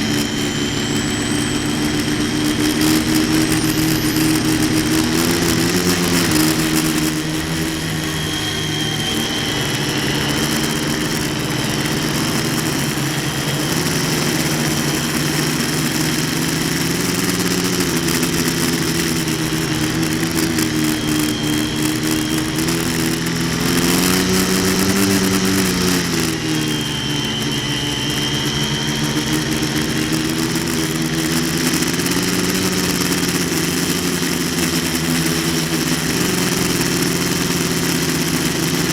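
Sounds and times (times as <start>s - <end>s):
drone motors humming: 0.0s - 38.9s.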